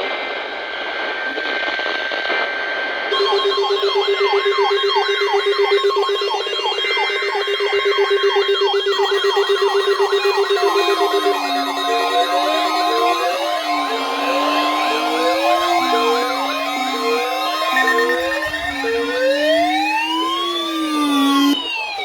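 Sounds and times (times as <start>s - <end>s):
faint steady tones: 3.1s - 21.7s
electronic alarm tones: 3.1s - 22.0s.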